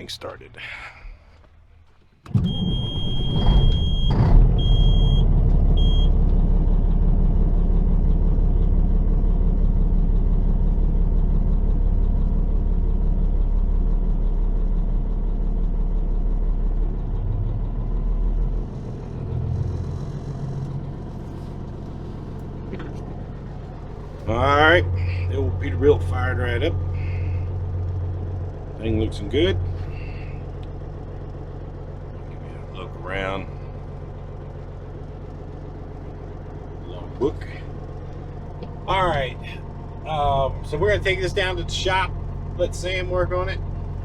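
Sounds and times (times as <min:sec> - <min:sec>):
diesel truck engine starting and idling: 0:00.0 - 0:44.0.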